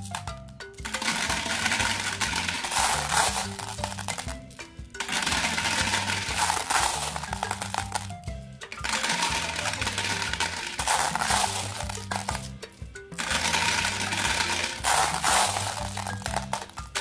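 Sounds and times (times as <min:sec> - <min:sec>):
background music with bass line: 0:00.0 - 0:17.0
glass marbles clattering: 0:00.0 - 0:17.0.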